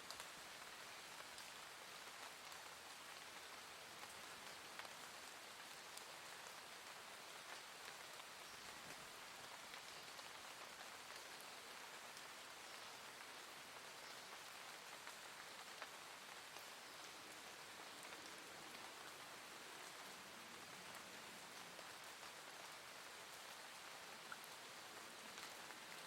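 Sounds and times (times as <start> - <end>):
gentle rain hiss: 0.0 - 26.0.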